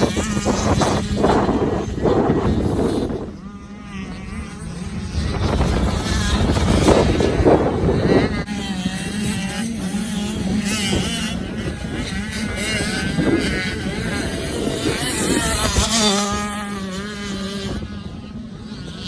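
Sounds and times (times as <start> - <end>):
motocross engines revving: 0.0 - 19.0.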